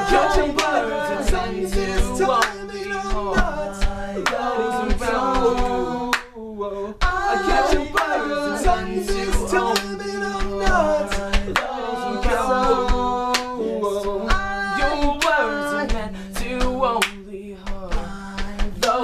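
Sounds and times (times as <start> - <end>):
person singing: 0.0 - 19.0.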